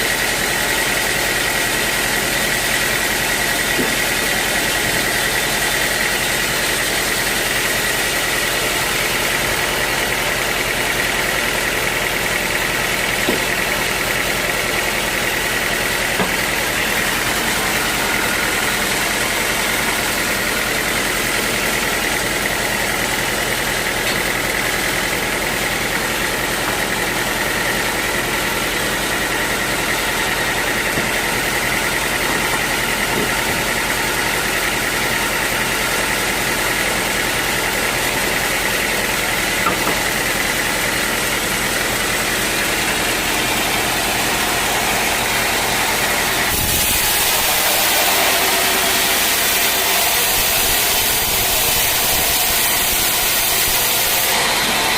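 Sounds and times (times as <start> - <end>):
sawmill machinery whining: 0.0 - 54.9.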